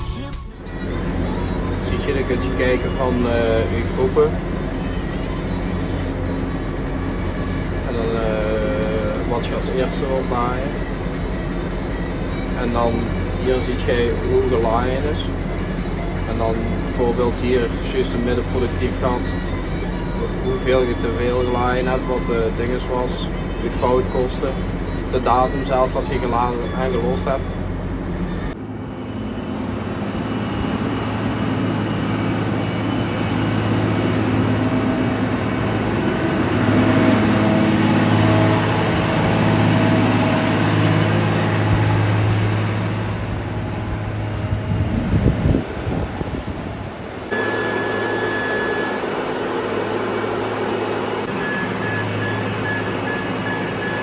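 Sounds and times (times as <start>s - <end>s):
feed mixer wagon humming: 0.5s - 54.0s.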